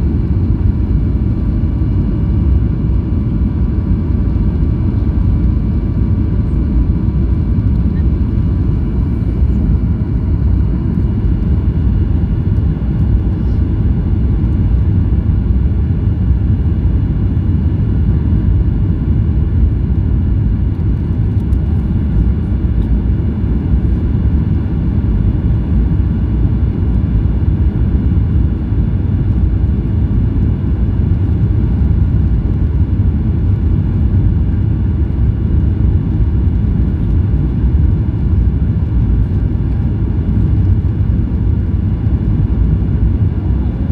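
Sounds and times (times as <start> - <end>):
jet airliner cabin rumble: 0.0 - 43.9.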